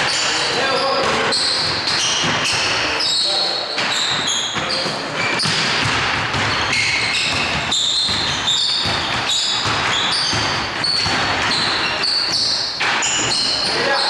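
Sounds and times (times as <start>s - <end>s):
basketball bouncing: 0.0s - 3.2s, 3.8s - 14.0s
shoes squeaking on floor: 0.0s - 14.0s.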